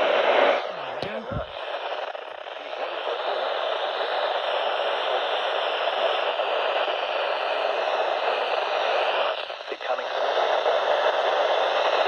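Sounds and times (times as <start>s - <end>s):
faint steady whine: 0.0s - 12.0s
radio static hiss: 0.0s - 12.0s.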